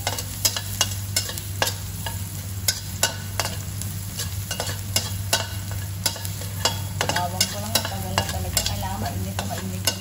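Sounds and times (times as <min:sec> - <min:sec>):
garlic sizzling in hot oil: 0:00.0 - 0:10.0
metal spoon scraping a wok: 0:00.0 - 0:10.0.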